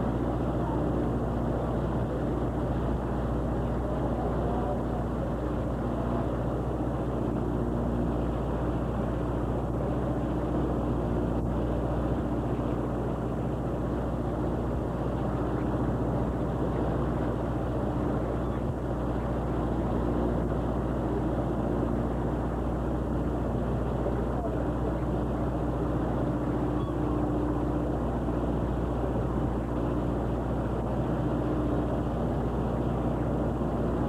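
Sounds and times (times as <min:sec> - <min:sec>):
boat engine droning: 0:00.0 - 0:34.0
sea noise: 0:00.0 - 0:34.0.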